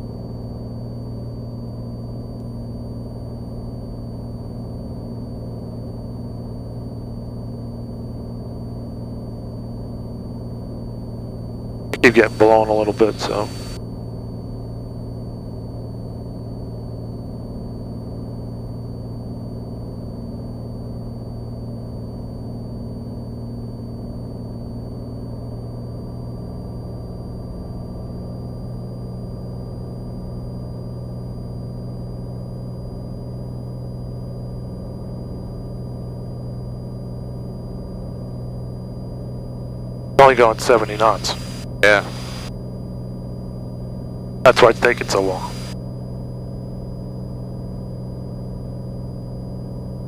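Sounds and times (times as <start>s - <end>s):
propeller plane engine droning: 0.0s - 22.6s, 23.6s - 50.0s.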